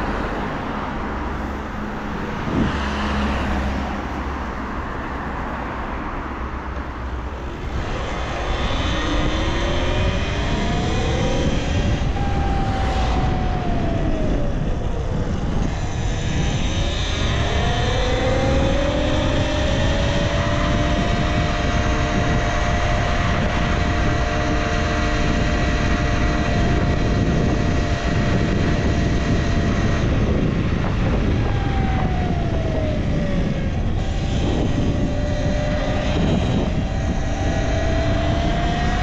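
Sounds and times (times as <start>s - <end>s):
wind and road noise: 0.0s - 39.0s
electric motor whine: 6.8s - 39.0s.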